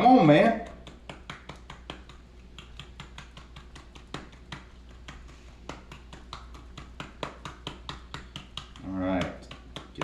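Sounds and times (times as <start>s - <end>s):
spice container shaken and tapped: 0.6s - 10.0s.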